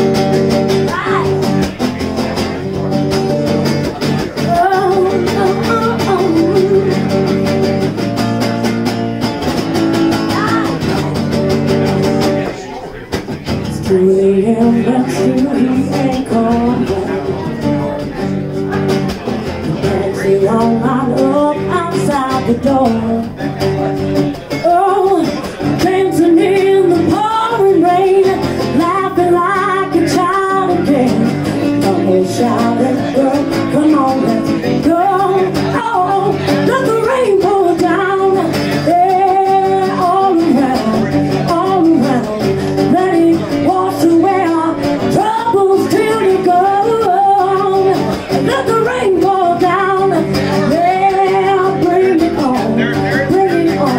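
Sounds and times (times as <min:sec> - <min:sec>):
woman singing: 0:00.0 - 0:01.8, 0:03.9 - 0:07.9, 0:13.6 - 0:18.2, 0:19.4 - 0:23.6, 0:24.5 - 0:53.9
acoustic guitar: 0:00.0 - 0:53.9.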